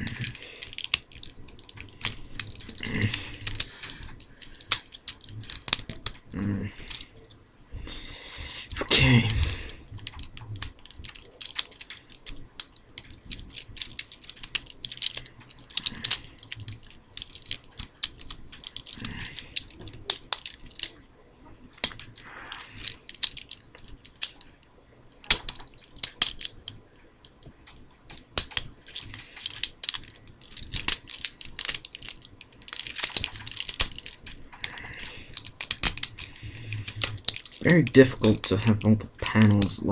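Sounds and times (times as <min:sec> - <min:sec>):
plastic toy parts clicking: 0:00.0 - 0:07.4, 0:08.6 - 0:21.0, 0:21.6 - 0:24.5, 0:25.2 - 0:39.9
soft rustling of handling: 0:00.0 - 0:39.9.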